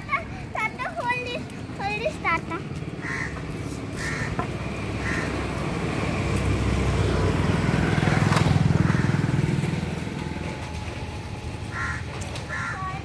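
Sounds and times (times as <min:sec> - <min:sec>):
vehicle passing by: 0:01.3 - 0:12.7.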